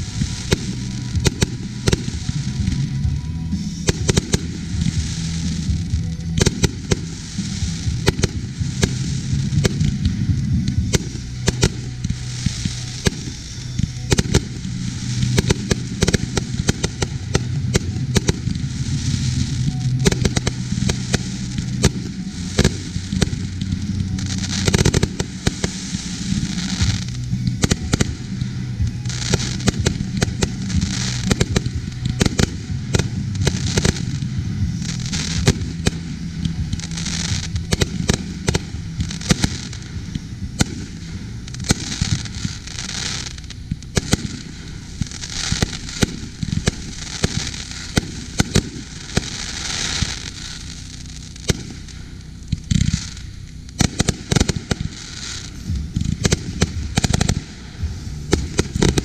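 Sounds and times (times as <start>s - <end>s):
fireworks launching and bursting: 0.0s - 59.0s.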